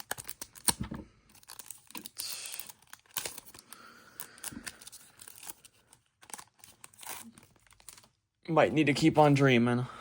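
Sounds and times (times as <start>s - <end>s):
card pack wrapper tearing: 0.0s - 8.1s
wrapper and cards crackling: 0.0s - 8.2s.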